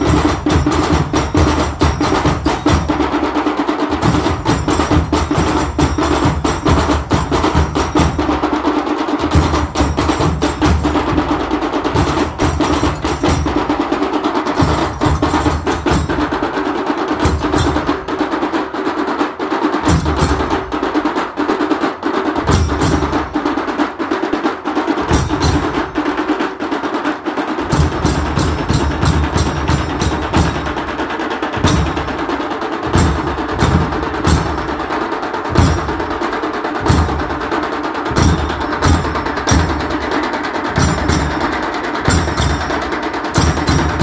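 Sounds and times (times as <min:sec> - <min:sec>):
sharp bright percussion strikes: 0:00.0 - 0:18.1, 0:22.3 - 0:23.9, 0:27.6 - 0:44.0.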